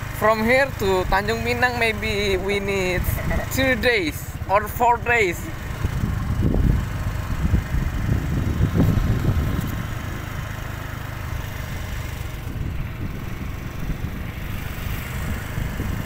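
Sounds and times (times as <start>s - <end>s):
motor scooter engine rumble: 0.0s - 16.0s.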